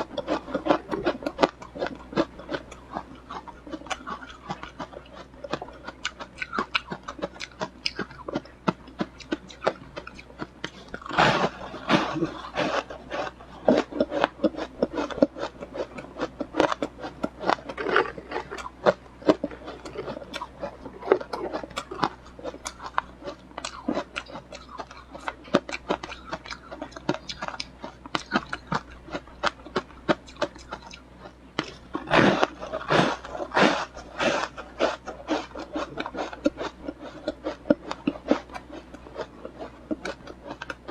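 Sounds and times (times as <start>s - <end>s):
person chewing ice: 0.0s - 40.9s.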